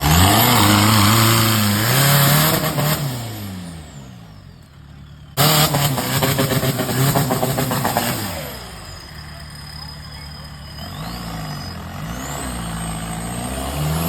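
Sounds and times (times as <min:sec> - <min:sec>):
engine revving hard: 0:00.0 - 0:04.5, 0:05.3 - 0:14.0.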